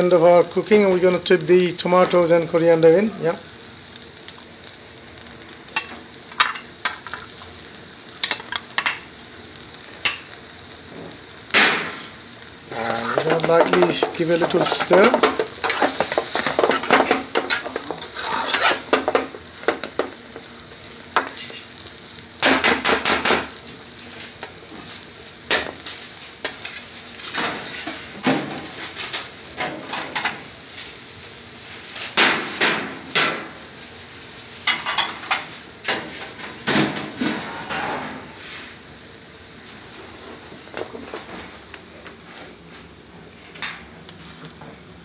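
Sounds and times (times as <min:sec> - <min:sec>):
low frying sizzle: 0:00.0 - 0:45.0.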